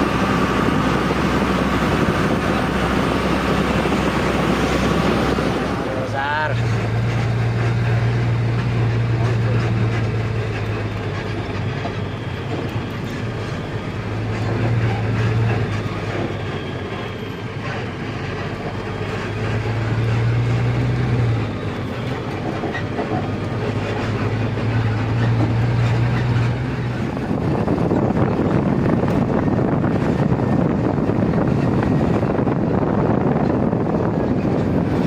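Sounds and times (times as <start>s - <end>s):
rattling in truck cab: 0.0s - 35.0s
road noise: 0.0s - 35.0s
truck engine droning: 0.0s - 35.0s.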